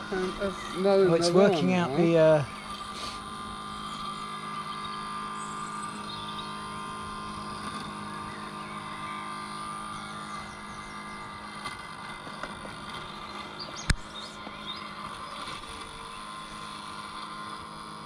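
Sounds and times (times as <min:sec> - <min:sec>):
robot lawnmower motor whine: 0:00.0 - 0:18.0.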